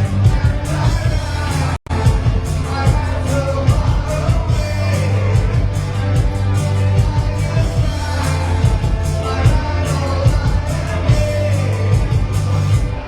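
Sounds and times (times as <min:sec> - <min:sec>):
live band playing new wave: 0:00.0 - 0:13.0
person singing: 0:00.0 - 0:13.0.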